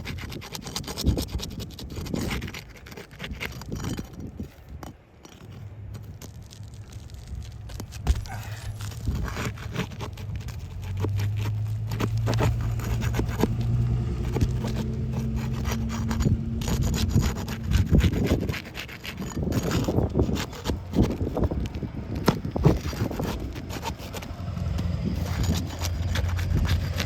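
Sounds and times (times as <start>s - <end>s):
roof shingles scraping and crackling: 0.0s - 27.0s.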